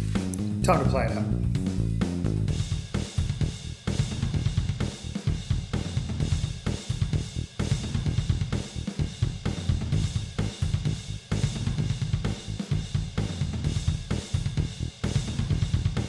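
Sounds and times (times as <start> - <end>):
music with drum beat: 0.0 - 16.0.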